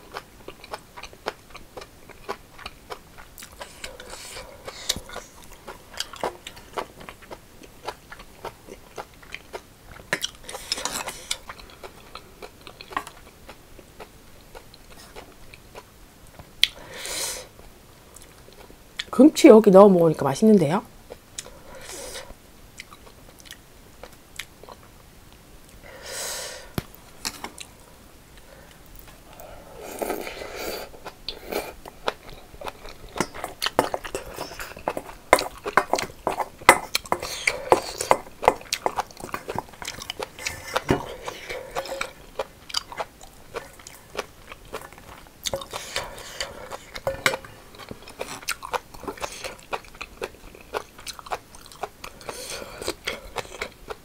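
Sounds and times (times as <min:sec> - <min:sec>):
chewing and crunching: 0:00.0 - 0:16.8, 0:22.7 - 0:24.9, 0:26.9 - 0:54.0.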